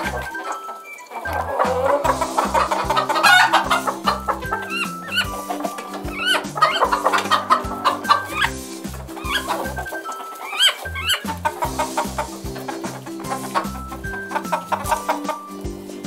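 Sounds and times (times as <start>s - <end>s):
background music with bass line: 0.0s - 0.4s, 1.3s - 10.0s, 10.8s - 16.0s
chickens clucking: 0.0s - 16.0s
chicks peeping: 0.0s - 16.0s.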